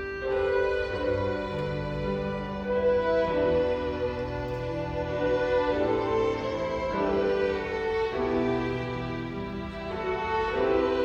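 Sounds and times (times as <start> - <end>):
violin ensemble playing long notes: 0.0 - 11.0.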